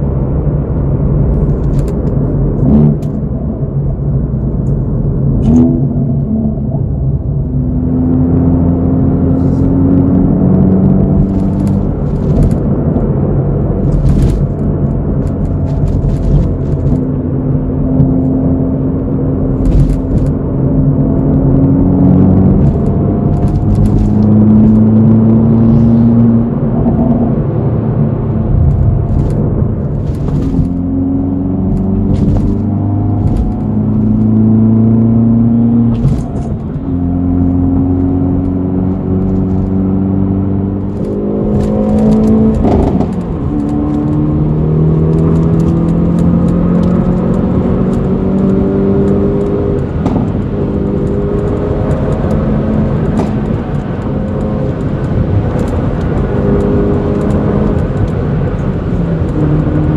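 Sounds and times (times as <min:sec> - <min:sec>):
car engine and exhaust drone: 0:00.0 - 0:59.9.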